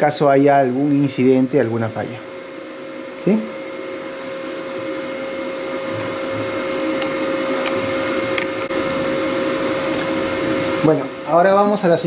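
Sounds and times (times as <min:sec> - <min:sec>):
motor whirring with whine: 0:00.0 - 0:12.0.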